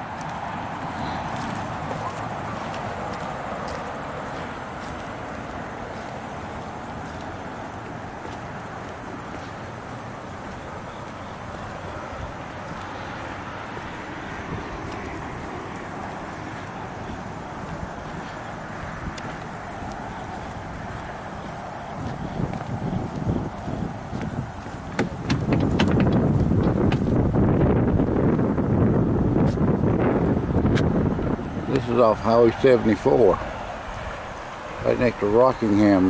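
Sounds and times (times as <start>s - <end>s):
broad outdoor rush: 0.0s - 36.0s
high insect-like buzz: 0.5s - 36.0s.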